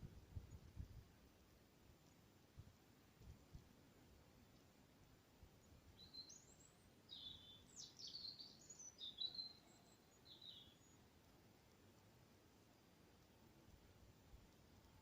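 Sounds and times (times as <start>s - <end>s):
songbird singing: 0.0s - 0.9s, 3.1s - 15.0s.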